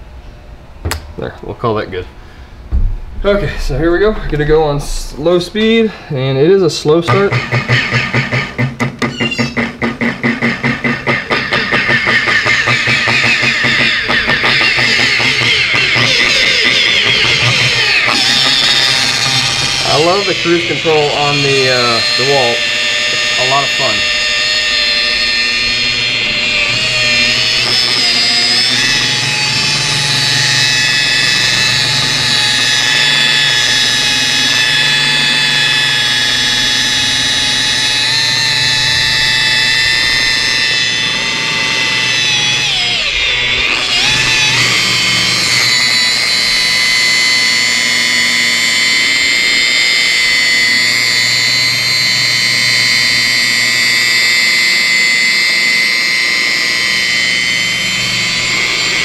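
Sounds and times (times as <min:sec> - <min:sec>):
polisher motor whine: 0:07.1 - 0:59.0.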